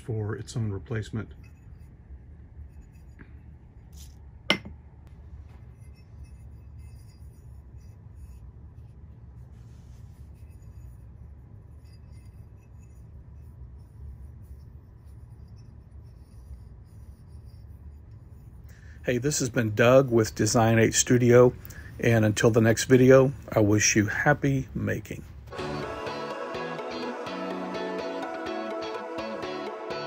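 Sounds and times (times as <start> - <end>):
low steady hum: 0.0 - 28.8.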